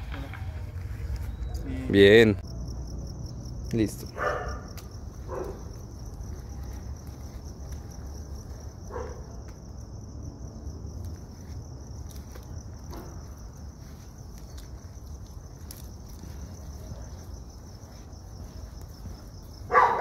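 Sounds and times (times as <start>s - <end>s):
crickets chirring: 0.0s - 20.0s
low outdoor rumble: 0.0s - 20.0s.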